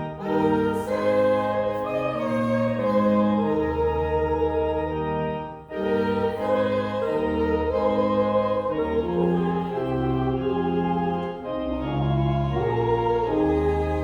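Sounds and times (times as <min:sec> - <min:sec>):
voices singing: 0:00.0 - 0:05.0, 0:05.7 - 0:14.0
church organ playing hymn chords: 0:00.0 - 0:14.0.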